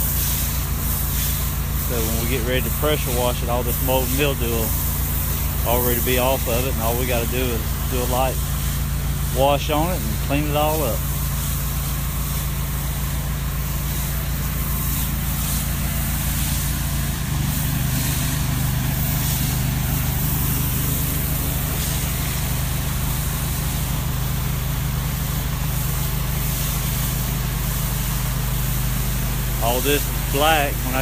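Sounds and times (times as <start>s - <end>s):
motor running: 0.0s - 31.0s
spray hissing: 0.0s - 31.0s.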